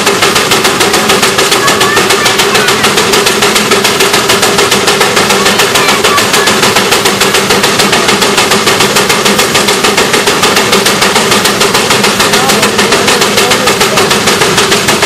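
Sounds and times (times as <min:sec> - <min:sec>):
steady hum: 0:00.0 - 0:15.0
steam engine exhaust chuffing: 0:00.0 - 0:15.0.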